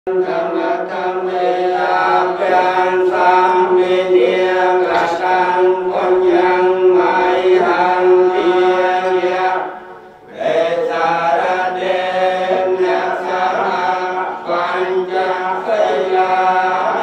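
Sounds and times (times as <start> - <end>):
monks chanting in unison: 0.1 - 17.0.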